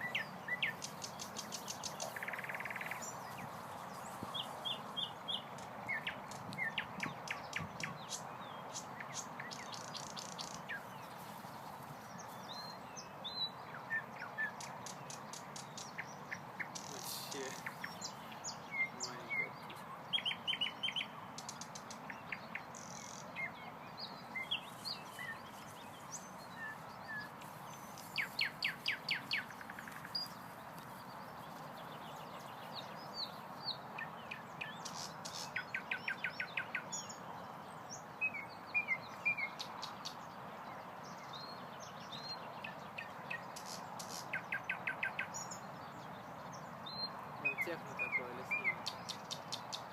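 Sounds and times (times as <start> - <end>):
nightingale singing: 0.0 - 11.3, 12.0 - 49.9.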